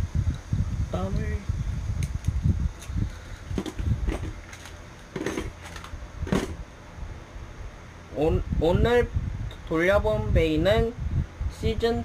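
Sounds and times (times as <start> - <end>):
low handling rumble: 0.0 - 11.7.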